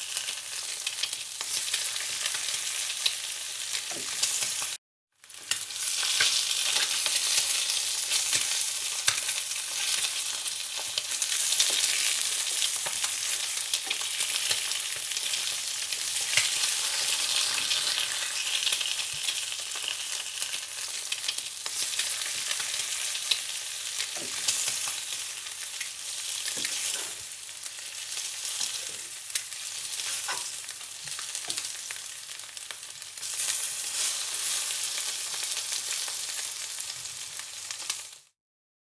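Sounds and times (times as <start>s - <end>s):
food sizzling in hot fat: 0.0s - 38.3s.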